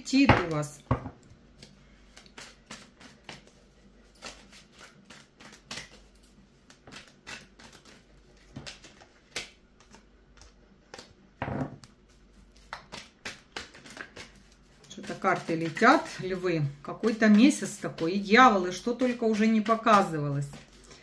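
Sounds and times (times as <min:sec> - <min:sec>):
cards being shuffled: 0:01.5 - 0:21.0.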